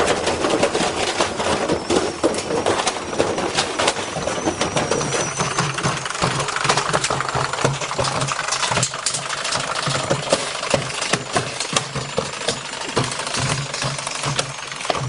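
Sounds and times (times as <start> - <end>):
low motor hum: 0.0 - 15.0
unbalanced washing machine clattering: 0.0 - 15.0.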